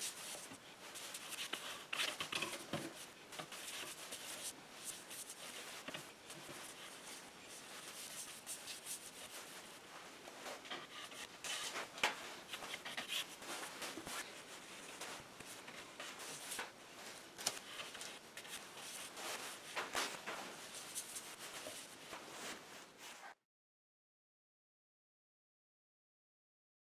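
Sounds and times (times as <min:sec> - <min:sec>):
brush stroking over wooden board: 0:00.0 - 0:23.4.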